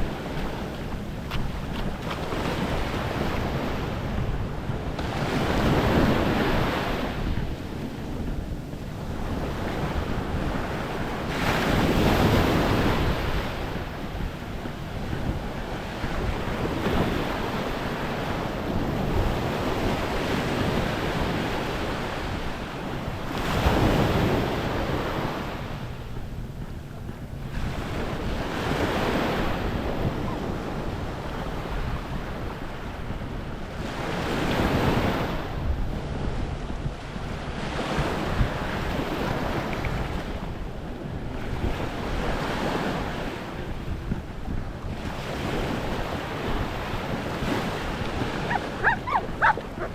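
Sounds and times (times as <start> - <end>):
waves washing on shore: 0.0 - 49.9
wind rumbling on microphone: 0.0 - 49.9.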